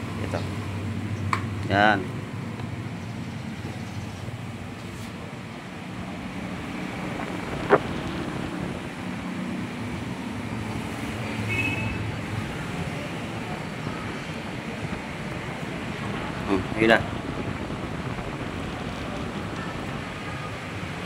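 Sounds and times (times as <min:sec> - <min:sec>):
background traffic noise: 0:00.0 - 0:21.0.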